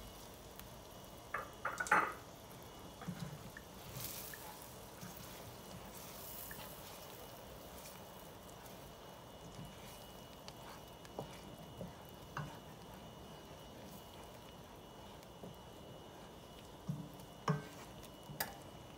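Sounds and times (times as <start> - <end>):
faint sizzle: 0.0 - 18.9
wooden spoon stirring in a pot: 0.1 - 18.9.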